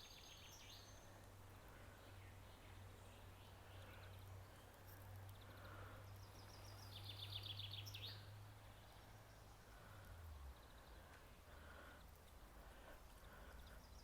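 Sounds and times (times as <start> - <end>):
faint outdoor hum: 0.0 - 14.0.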